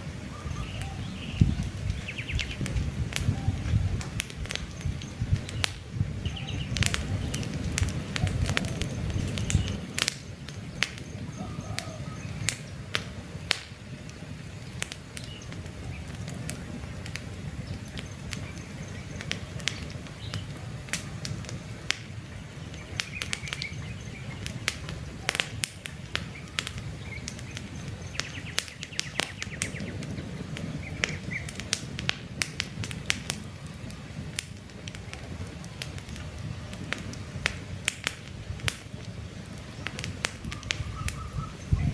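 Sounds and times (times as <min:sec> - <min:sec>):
birds chirping: 0:00.0 - 0:31.8, 0:38.8 - 0:41.9
campfire crackling and popping: 0:00.0 - 0:41.9
low rumble of burning: 0:00.0 - 0:41.9.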